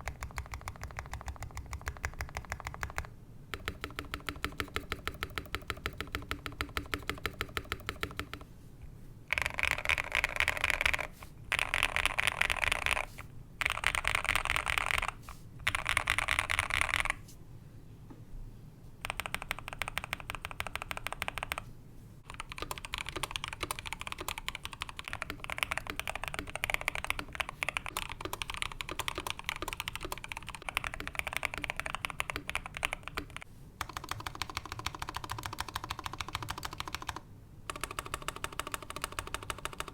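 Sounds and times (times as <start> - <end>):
mechanical keyboard typing: 0.0 - 8.4, 9.3 - 17.2, 19.0 - 21.6, 22.2 - 39.9.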